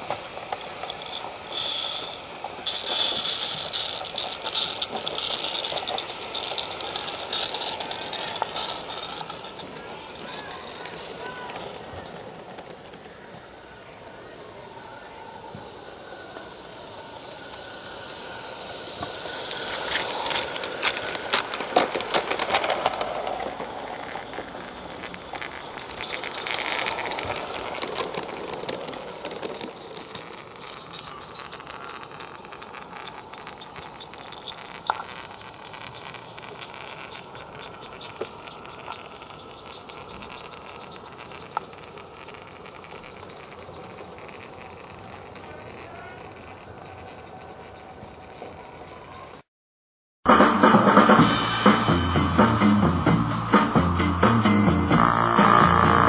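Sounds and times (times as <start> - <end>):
steam hissing: 0.0 - 49.5
wheels clicking on rails: 0.0 - 49.5.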